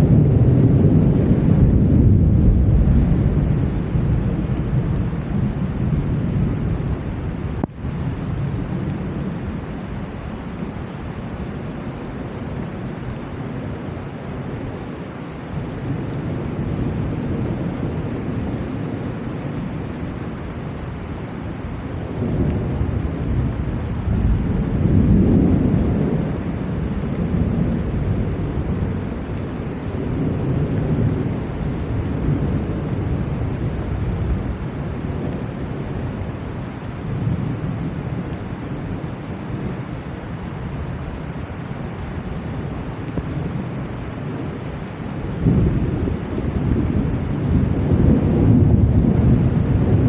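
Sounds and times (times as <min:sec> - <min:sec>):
rolling thunder: 0:00.0 - 0:12.6, 0:14.5 - 0:50.0
steady rain falling: 0:00.0 - 0:50.0.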